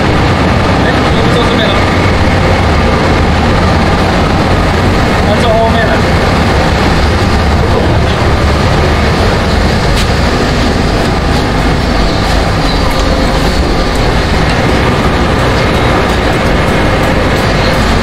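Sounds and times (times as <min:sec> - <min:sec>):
train rumbling inside carriage: 0:00.0 - 0:18.0.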